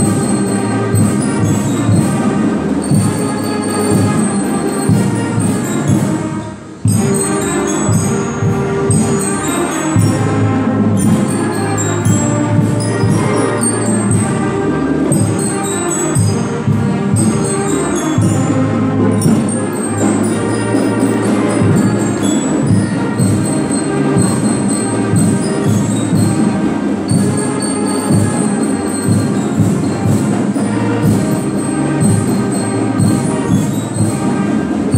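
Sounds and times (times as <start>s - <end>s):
concert band playing: 0.0s - 34.9s.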